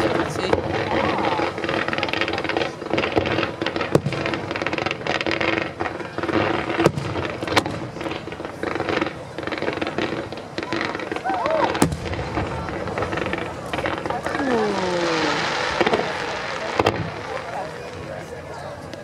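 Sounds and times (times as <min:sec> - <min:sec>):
fireworks crackling and hissing: 0:00.0 - 0:19.0.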